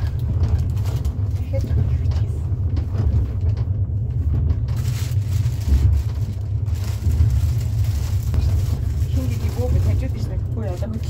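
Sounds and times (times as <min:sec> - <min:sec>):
vehicle rumble from inside: 0:00.0 - 0:11.0.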